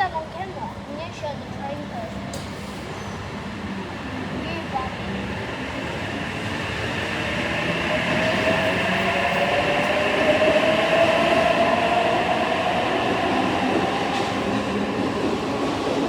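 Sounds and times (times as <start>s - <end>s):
train rolling rumble: 0.9s - 16.0s.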